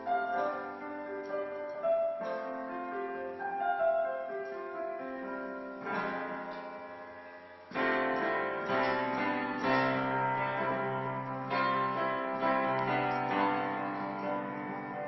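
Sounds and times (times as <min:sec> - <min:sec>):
digital piano chords: 0:00.0 - 0:15.0.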